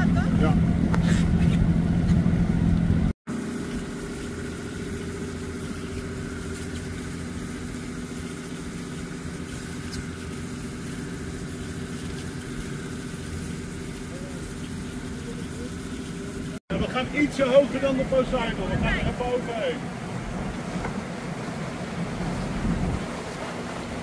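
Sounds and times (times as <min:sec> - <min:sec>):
ship engine droning: 0:00.0 - 0:24.0.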